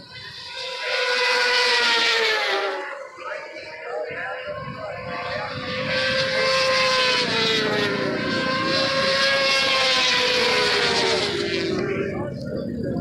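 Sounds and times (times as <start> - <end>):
racing motorcycles at high revs: 0.2 - 3.5, 4.6 - 12.2.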